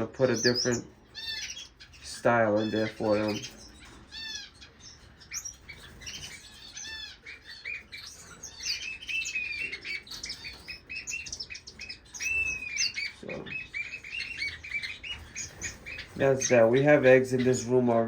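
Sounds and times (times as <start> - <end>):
finches chirping: 0.0 - 18.0.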